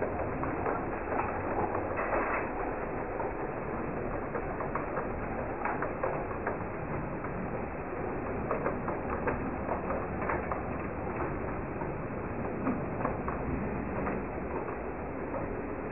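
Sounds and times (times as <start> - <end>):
model train wheels rattling: 0.0 - 15.9.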